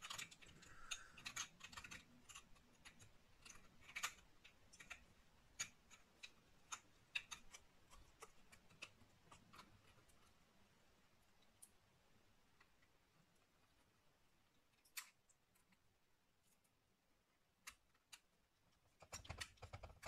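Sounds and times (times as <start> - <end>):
small clicks and taps: 0.0 - 10.4, 11.2 - 16.8, 17.4 - 20.0.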